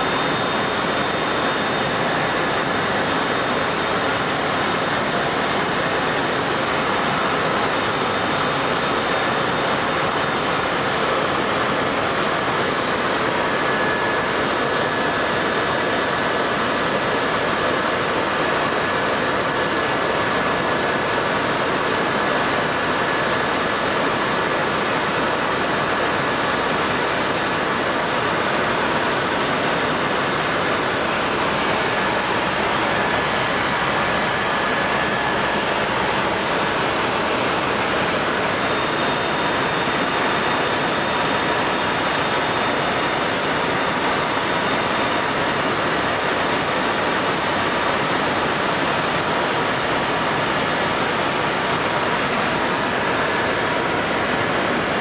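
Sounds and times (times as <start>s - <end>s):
faint high whine: 0.0s - 55.0s
helicopter cabin noise: 0.0s - 55.0s.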